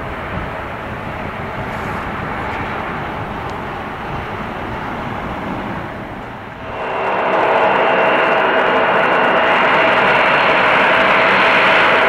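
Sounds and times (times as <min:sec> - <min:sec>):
distant jet engine: 0:00.0 - 0:12.0.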